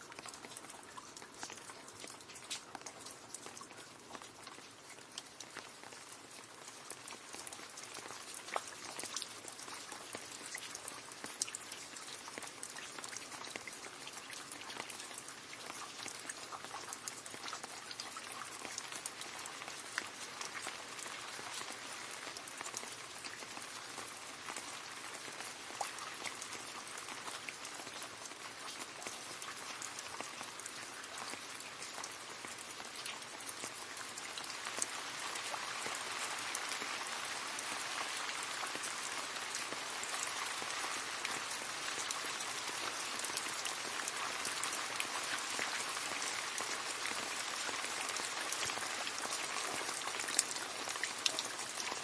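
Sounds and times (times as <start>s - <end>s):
rain splashing into a puddle: 0.0s - 52.0s.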